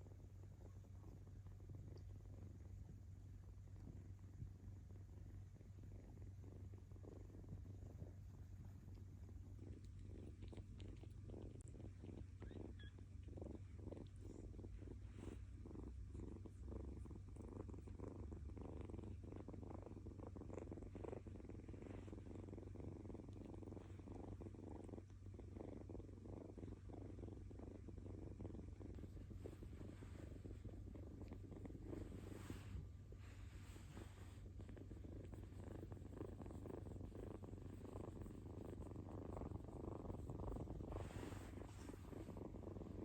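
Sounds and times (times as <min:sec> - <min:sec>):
kitten purring: 0:00.0 - 0:43.0.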